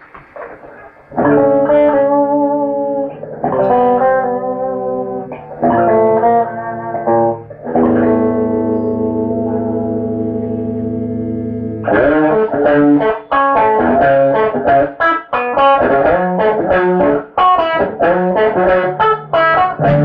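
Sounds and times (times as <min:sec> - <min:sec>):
electric guitar chords ringing: 0:00.0 - 0:20.0.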